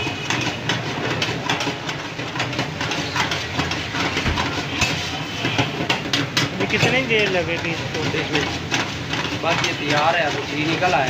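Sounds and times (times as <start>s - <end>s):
metal ladle scraping a pan: 0.0s - 11.0s
steady cooking hiss: 0.0s - 11.0s.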